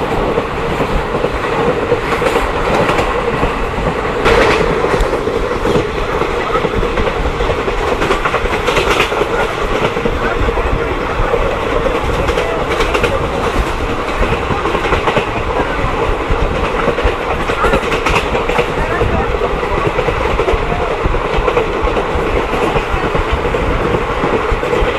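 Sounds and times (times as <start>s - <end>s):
train coach rumbling and rattling: 0.0s - 24.9s
wheels clacking on rail joints: 0.0s - 24.9s.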